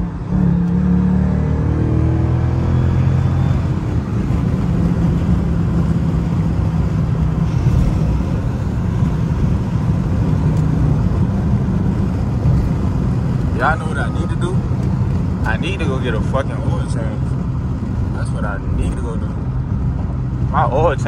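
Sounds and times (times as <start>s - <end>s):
car engine drone: 0.0s - 21.0s
road and tyre noise: 0.0s - 21.0s.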